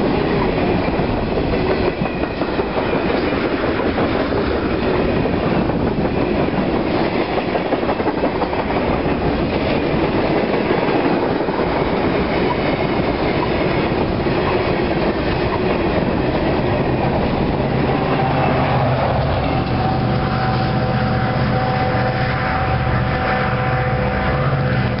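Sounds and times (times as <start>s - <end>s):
freight train wheels clacking: 0.0s - 25.0s.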